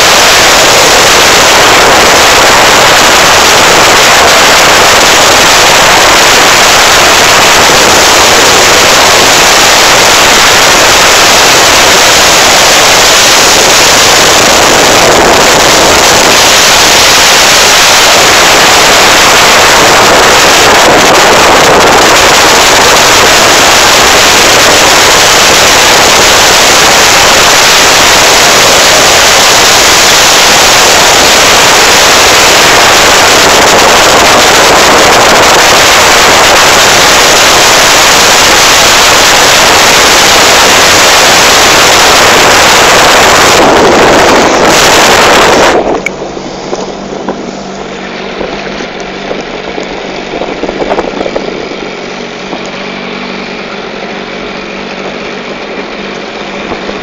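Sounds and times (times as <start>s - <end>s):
wind on microphone: 0.0s - 54.0s, 54.6s - 57.0s
jet ski engine: 0.0s - 57.0s.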